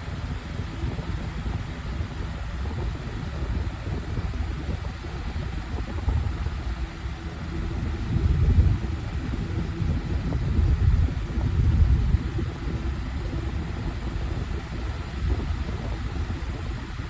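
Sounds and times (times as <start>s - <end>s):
faint steady hum: 0.0s - 17.0s
fan rumbling: 0.0s - 17.0s.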